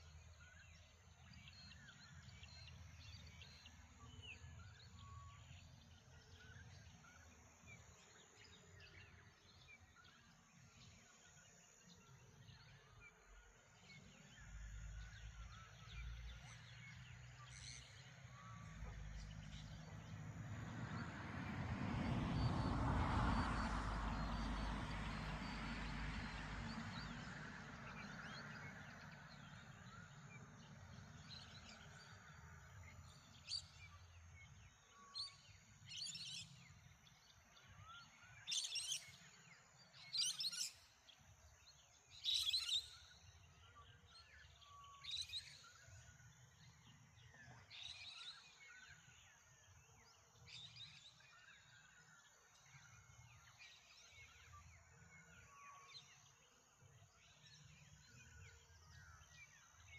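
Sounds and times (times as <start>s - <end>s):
faint outdoor background: 0.0s - 59.9s.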